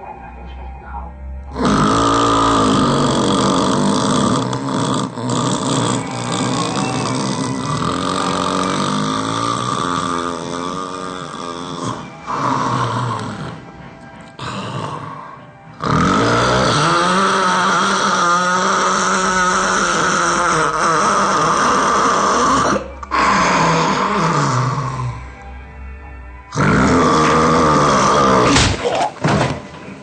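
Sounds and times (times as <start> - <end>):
loud snoring: 1.4 - 25.6, 26.5 - 29.3.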